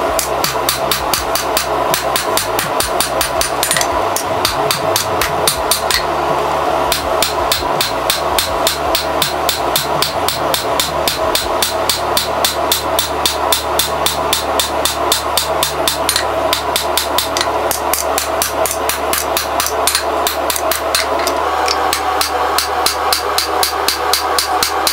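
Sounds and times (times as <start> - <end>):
hammer striking steel on anvil: 0.0 - 6.1, 6.9 - 24.9
steady hum: 0.0 - 24.9.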